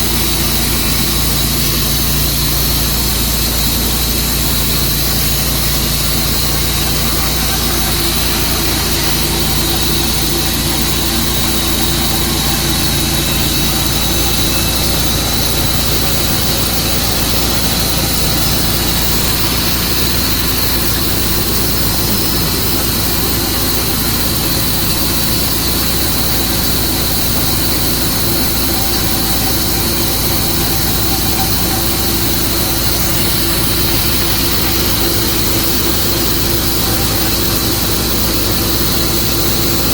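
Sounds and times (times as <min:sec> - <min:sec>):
sawmill engine running: 0:00.0 - 0:39.9
thin high whine: 0:00.0 - 0:39.9.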